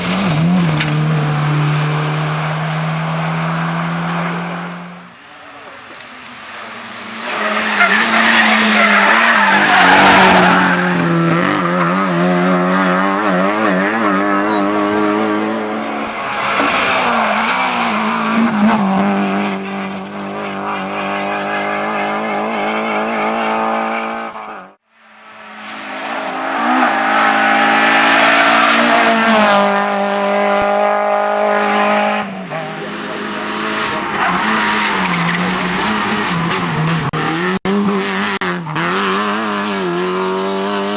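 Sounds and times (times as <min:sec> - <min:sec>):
rally car engine at high revs: 0:00.0 - 0:40.9.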